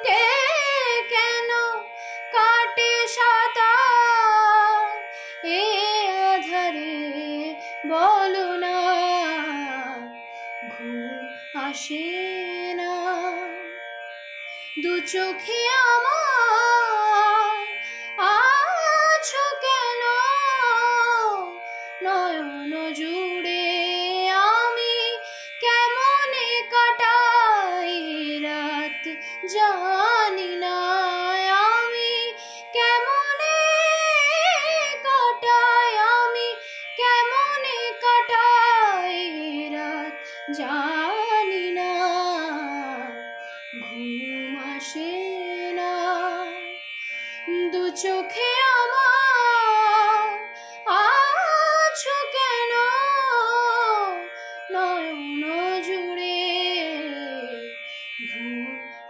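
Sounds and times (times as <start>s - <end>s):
woman singing: 0.0s - 13.7s, 14.8s - 46.7s, 47.3s - 59.0s
instrumental drone: 0.0s - 59.0s.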